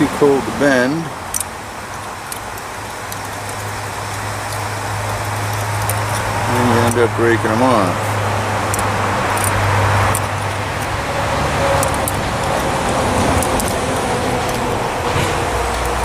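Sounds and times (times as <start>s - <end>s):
tools clicking on metal: 1.2s - 7.2s, 8.6s - 16.0s.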